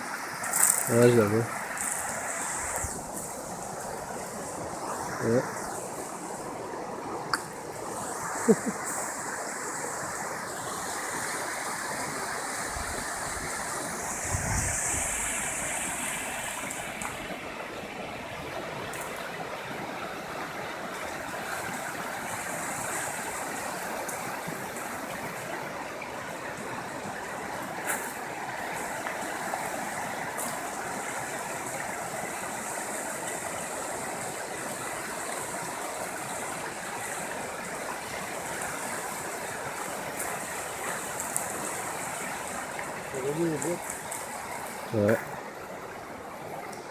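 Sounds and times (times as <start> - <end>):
river rushing over rocks: 0.0 - 46.9.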